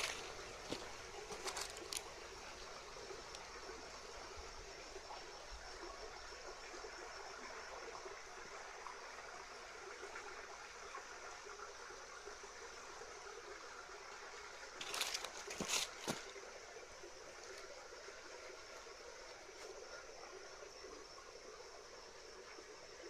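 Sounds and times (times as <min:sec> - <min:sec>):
stream flowing: 0:00.0 - 0:23.0.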